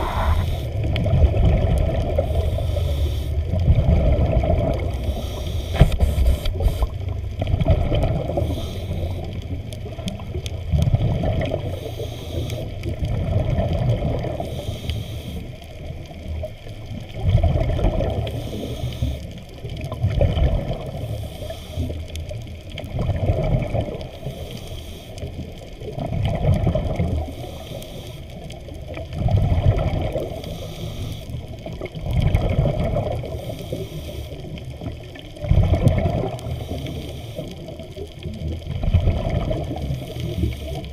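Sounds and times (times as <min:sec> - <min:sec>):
muffled underwater water noise: 0:00.0 - 0:40.9.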